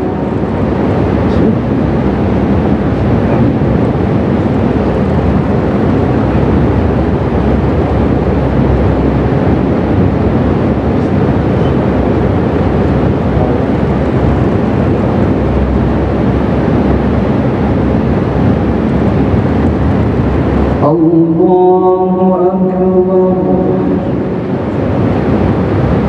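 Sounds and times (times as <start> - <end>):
low rumbling noise: 0.0 - 26.0.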